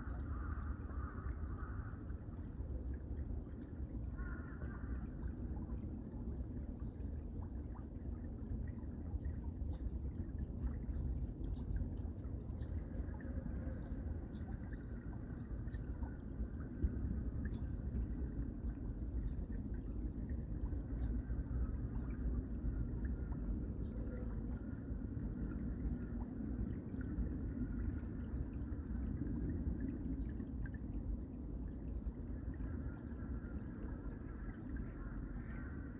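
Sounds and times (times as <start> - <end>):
stream water running: 0.0 - 35.9.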